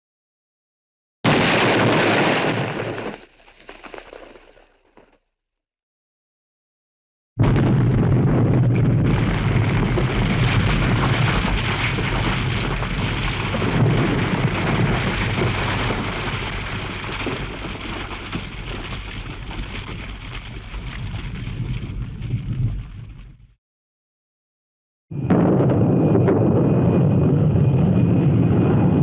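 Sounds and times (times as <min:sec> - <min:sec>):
explosion with crackling rumble: 0:01.2 - 0:05.1, 0:07.4 - 0:23.6, 0:25.1 - 0:29.0.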